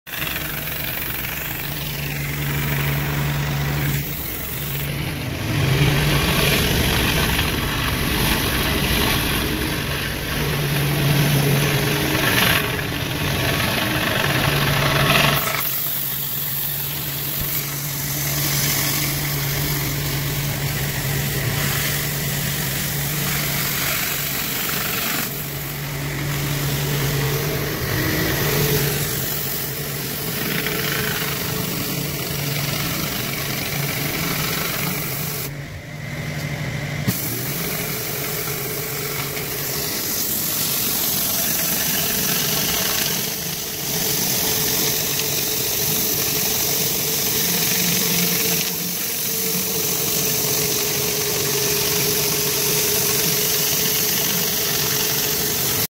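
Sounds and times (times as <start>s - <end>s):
pressure washer engine running: 0.0s - 55.9s
water spraying on concrete: 0.1s - 35.5s, 37.1s - 55.9s.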